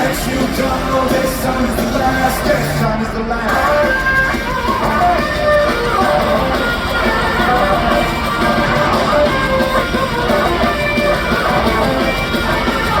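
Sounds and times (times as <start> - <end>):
live rock music: 0.0 - 13.0
strummed electric guitar: 0.0 - 13.0.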